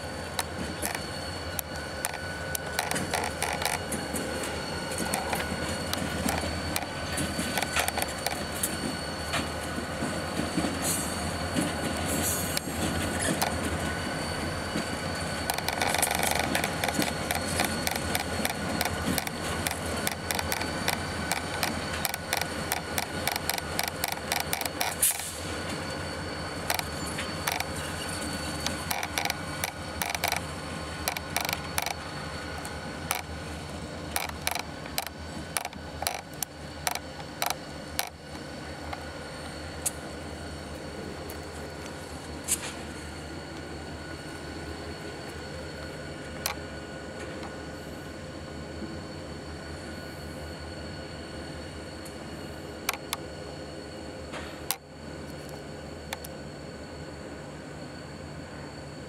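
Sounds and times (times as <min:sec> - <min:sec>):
diesel locomotive engine rumble: 0:00.0 - 0:59.0
high whine: 0:00.0 - 0:59.0.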